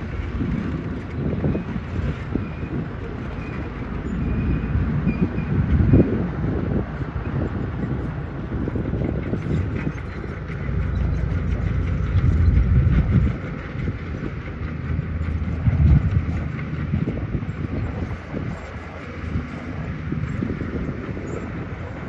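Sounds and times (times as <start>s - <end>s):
heavy machinery diesel engine rumble: 0.0s - 22.0s.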